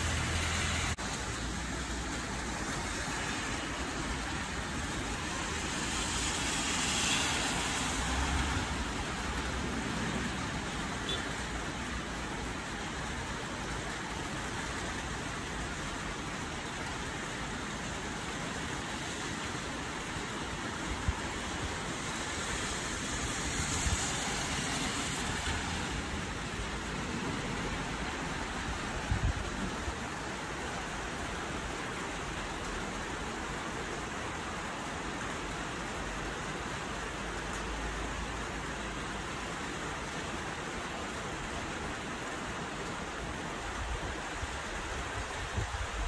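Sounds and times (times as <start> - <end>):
heavy rain hissing: 0.0 - 46.0.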